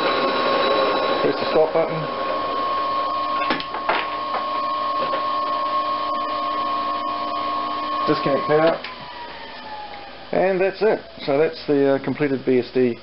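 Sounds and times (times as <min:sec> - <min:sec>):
electrical whine and hum: 0:00.0 - 0:13.0.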